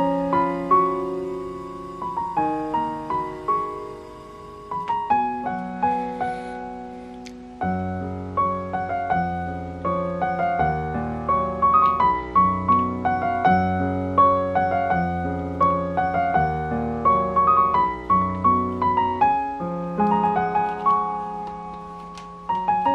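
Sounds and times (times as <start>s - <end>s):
gentle piano music: 0.0s - 22.9s.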